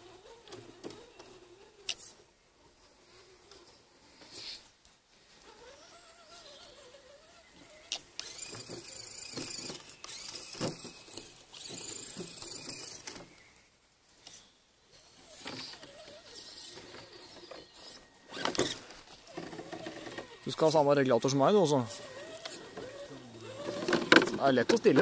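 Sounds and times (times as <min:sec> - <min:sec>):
toy truck electric motor whining: 0:00.0 - 0:02.2, 0:05.4 - 0:13.4, 0:14.2 - 0:20.9, 0:21.6 - 0:25.0.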